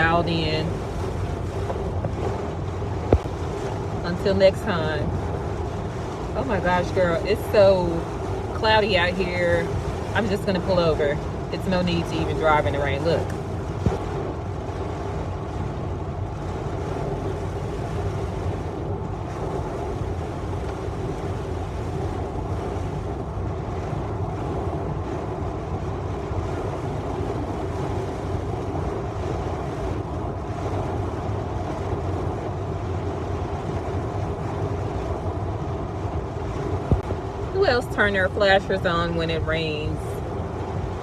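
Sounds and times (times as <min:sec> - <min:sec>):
heavy rain on car: 0:00.0 - 0:41.0
low hum: 0:00.0 - 0:41.0.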